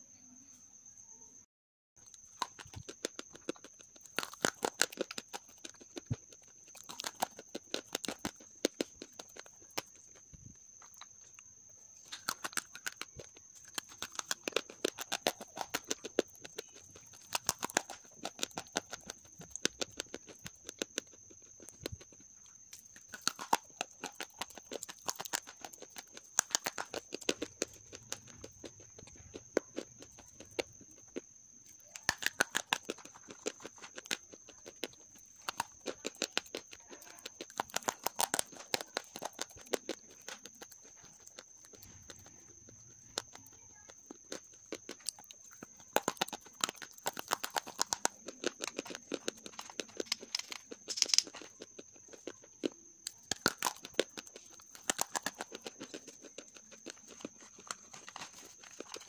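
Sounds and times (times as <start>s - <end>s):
crisp chewing crunches: 2.0s - 59.0s.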